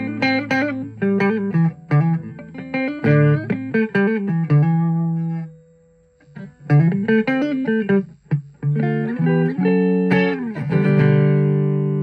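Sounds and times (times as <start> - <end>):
clean electric guitar playing: 0.0 - 12.0.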